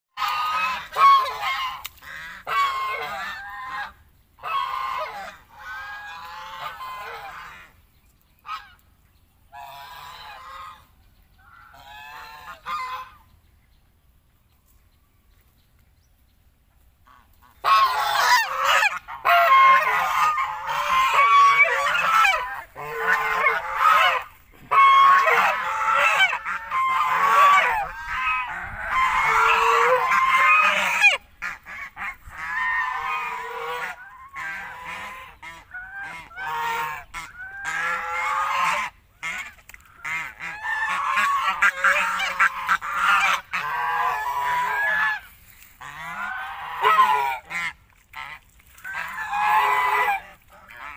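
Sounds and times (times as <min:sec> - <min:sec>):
geese honking: 0:00.2 - 0:07.8, 0:09.5 - 0:13.3, 0:17.0 - 0:50.9.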